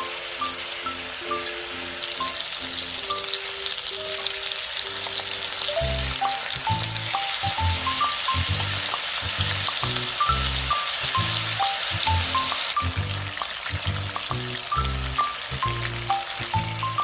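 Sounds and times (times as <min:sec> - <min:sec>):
background music: 0:00.0 - 0:17.0
food sizzling in frying pan: 0:00.0 - 0:17.0.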